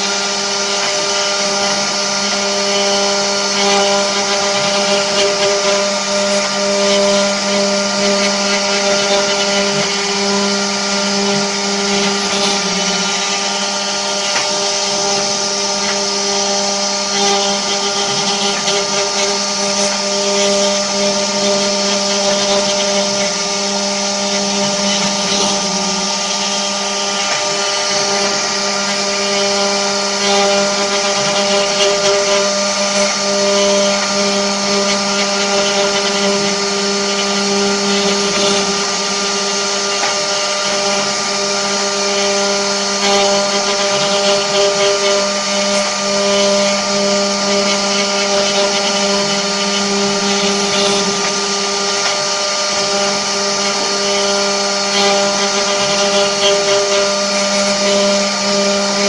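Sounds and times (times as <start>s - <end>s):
cnc router motors whining: 0.0s - 59.0s.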